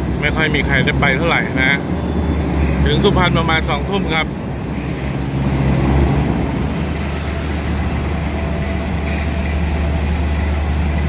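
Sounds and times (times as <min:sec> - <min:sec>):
diesel railcar engine droning: 0:00.0 - 0:11.0.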